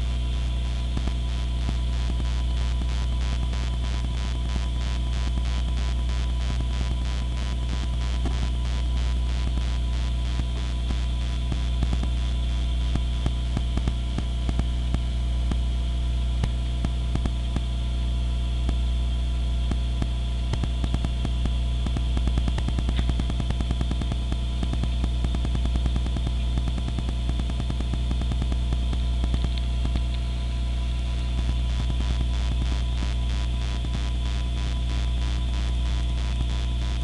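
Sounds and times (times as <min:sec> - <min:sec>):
crackle of small clicks: 0:00.0 - 0:17.8, 0:18.6 - 0:19.0, 0:19.6 - 0:37.0
low electrical hum: 0:00.0 - 0:37.0.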